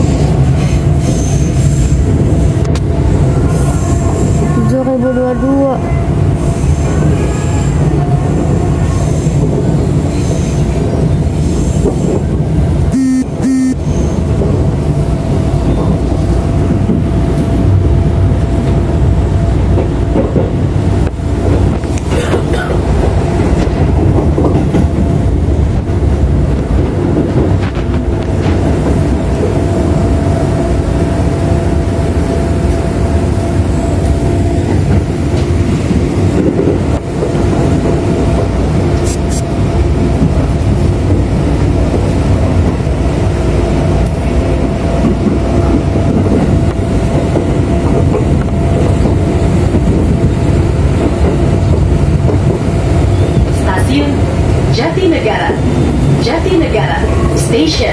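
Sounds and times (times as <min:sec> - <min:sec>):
steady train whine: 0:00.0 - 0:57.9
train wheels rumbling on rails: 0:00.0 - 0:57.9.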